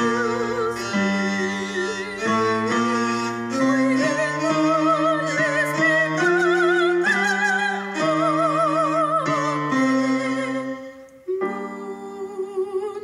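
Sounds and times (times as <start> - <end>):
sacred classical music: 0.0 - 13.0.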